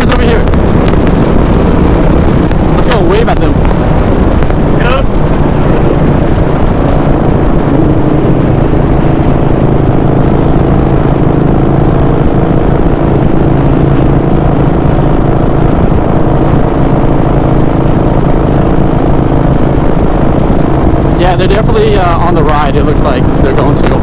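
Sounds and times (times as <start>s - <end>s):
motorcycle engine rumbling: 0.0s - 24.0s
road and wind noise: 0.0s - 24.0s.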